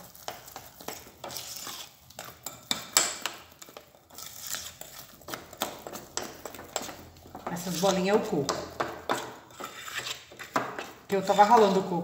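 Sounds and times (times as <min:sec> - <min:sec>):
spoon stirring batter in glass bowl: 0:00.0 - 0:12.0.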